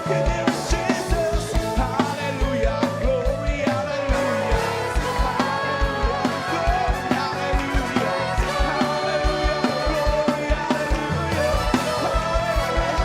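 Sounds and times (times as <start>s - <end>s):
choir singing gospel: 0.0s - 13.0s
live band playing: 0.0s - 13.0s.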